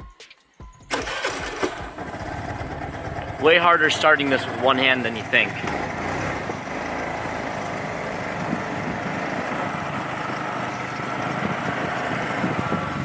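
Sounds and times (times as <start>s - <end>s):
small motorbike engine running: 1.0s - 13.0s.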